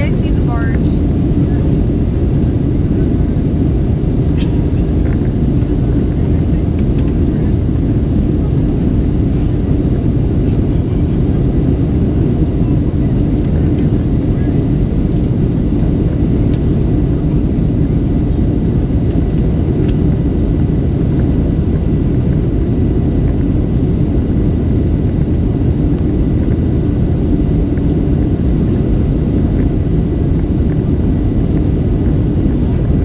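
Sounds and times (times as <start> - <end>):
jet engine roar in cabin: 0.0 - 33.0.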